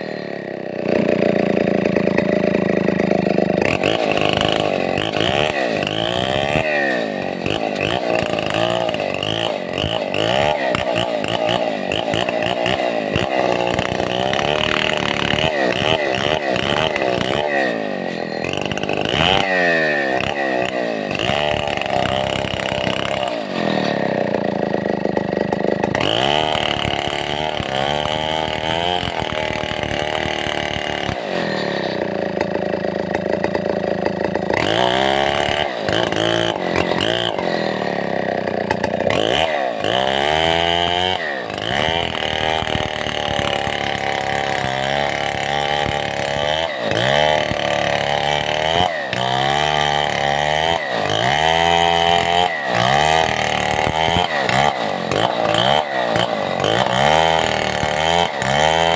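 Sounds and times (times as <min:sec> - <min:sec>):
chainsaw cutting timber: 0:00.0 - 0:58.9.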